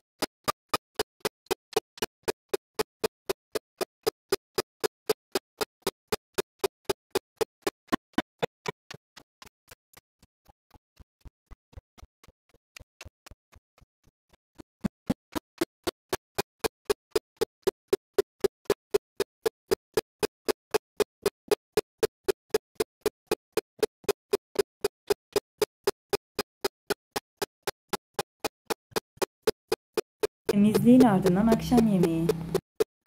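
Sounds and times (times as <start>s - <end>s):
steady sharp ticking: 0.0s - 13.9s, 14.6s - 33.0s.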